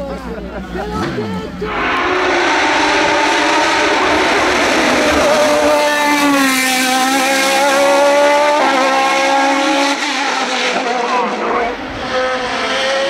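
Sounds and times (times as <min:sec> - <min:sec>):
race car engine revving: 0:01.7 - 0:13.0.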